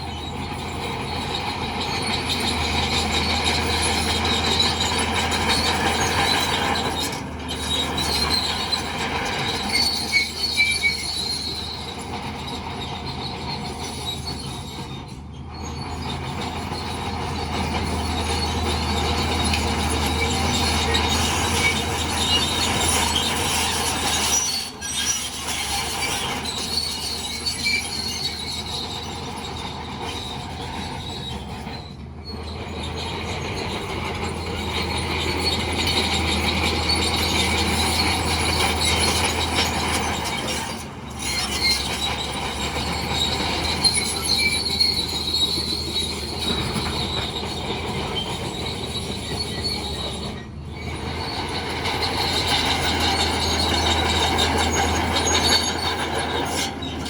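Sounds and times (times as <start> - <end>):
diesel engine hum: 0.0 - 57.0
steel tracks squealing and clattering: 0.0 - 57.0.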